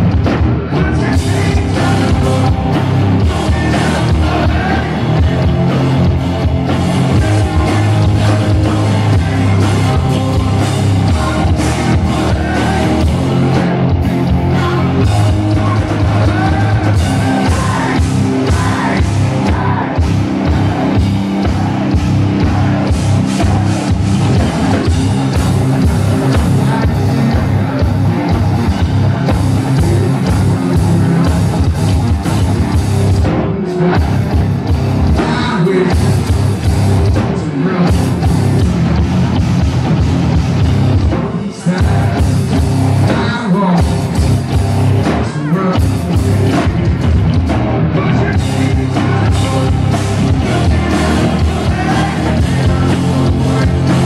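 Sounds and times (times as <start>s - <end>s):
hard rock band playing: 0.0s - 54.0s
person singing: 0.5s - 32.5s, 35.1s - 36.4s, 41.0s - 44.4s, 45.0s - 54.0s.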